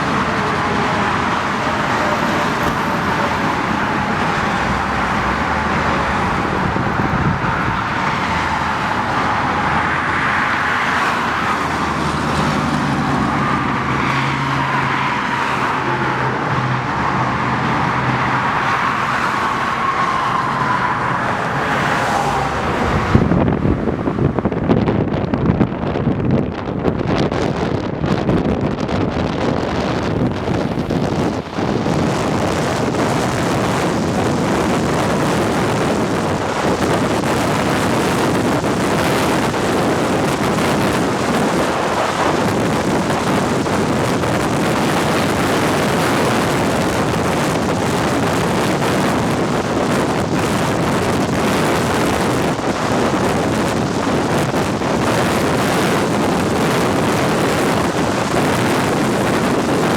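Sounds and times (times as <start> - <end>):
highway traffic passing: 0.0 - 59.9
wind rumbling on microphone: 0.0 - 59.9.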